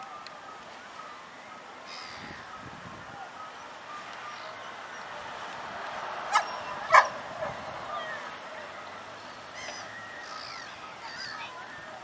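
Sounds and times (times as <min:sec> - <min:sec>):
bird calls: 0:00.0 - 0:05.5, 0:06.3 - 0:12.0
steady outdoor hiss: 0:00.0 - 0:12.0.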